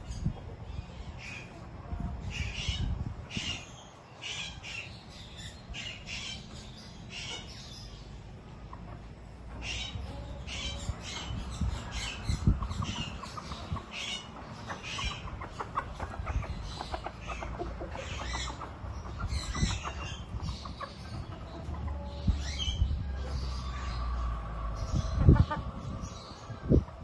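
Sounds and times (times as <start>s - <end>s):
birds squawking: 2.3s - 8.0s, 8.7s - 26.9s.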